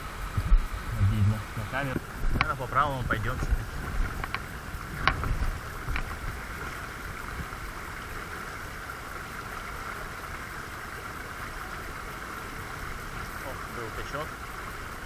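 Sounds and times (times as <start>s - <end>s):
stream rushing over a riffle: 0.0s - 15.0s.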